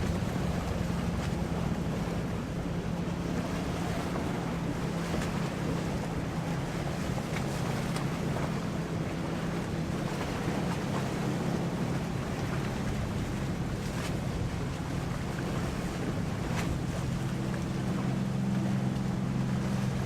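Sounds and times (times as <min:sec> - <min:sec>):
motorboat engines humming: 0:00.0 - 0:20.0
water noise: 0:00.0 - 0:20.0.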